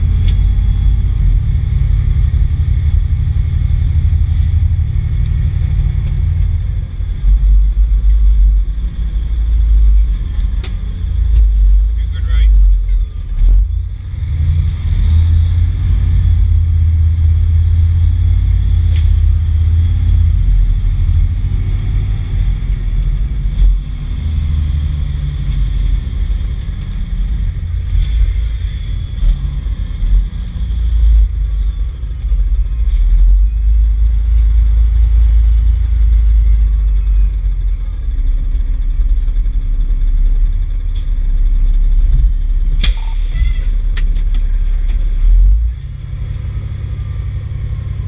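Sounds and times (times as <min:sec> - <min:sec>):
diesel engine low rumble: 0:00.0 - 0:48.0.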